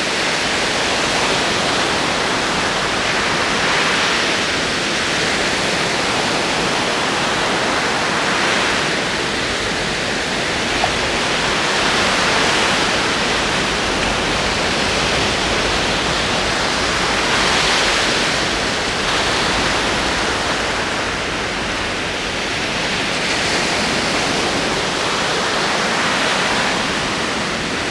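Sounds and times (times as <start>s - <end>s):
ocean waves: 0.0s - 27.9s.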